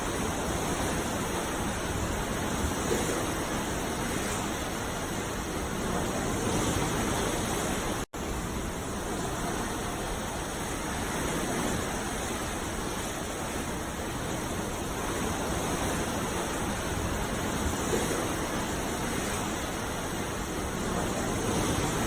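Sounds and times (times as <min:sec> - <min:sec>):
sea waves washing: 0:00.0 - 0:22.0.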